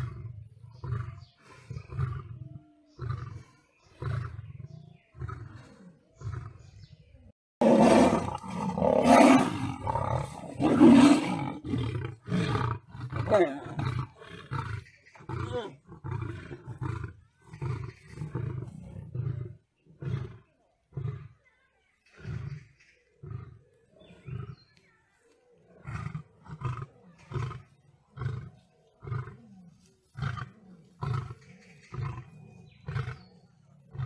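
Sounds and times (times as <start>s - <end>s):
big cats snarling and roaring: 0.0s - 21.4s, 22.0s - 34.0s
short low grunting growls: 0.0s - 21.4s, 25.6s - 34.0s.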